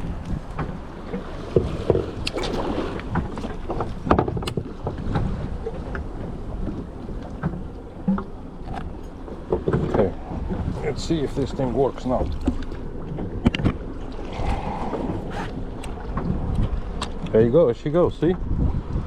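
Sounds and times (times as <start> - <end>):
boat noise at sea: 0.0 - 19.0
wind buffeting microphone: 0.0 - 19.0.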